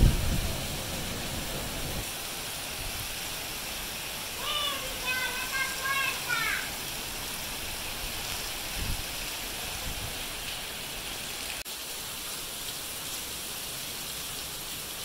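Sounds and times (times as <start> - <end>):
torrential rain pouring: 0.0 - 15.0.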